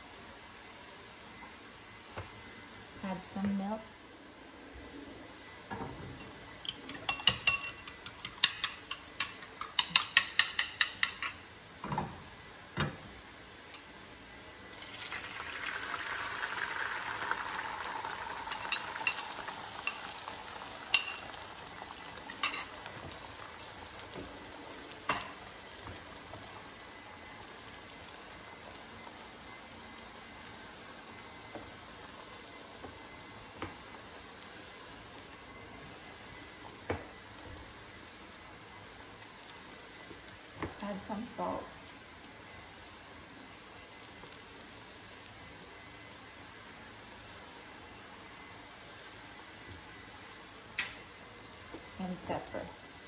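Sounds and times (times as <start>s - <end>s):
egg mixture sizzling in a pan: 5.8s - 11.6s, 13.3s - 53.0s.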